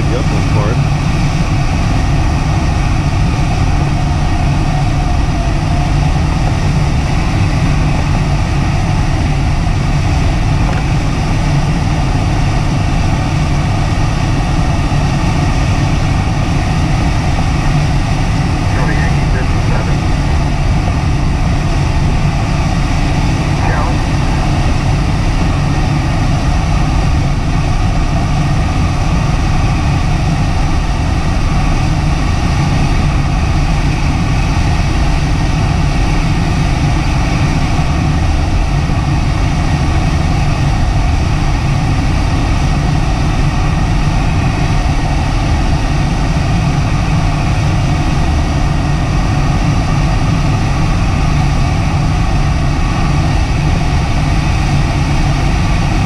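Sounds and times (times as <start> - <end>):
airflow rushing over cockpit canopy: 0.0 - 56.0.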